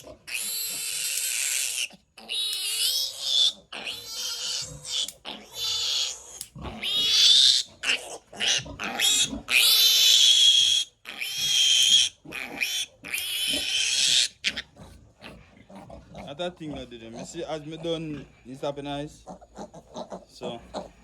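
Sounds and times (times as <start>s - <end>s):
piglet squealing: 0.0s - 18.1s, 19.3s - 21.0s.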